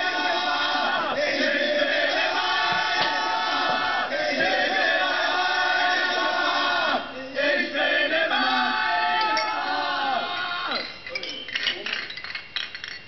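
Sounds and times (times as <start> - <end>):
men singing punk chorus: 0.0 - 10.8.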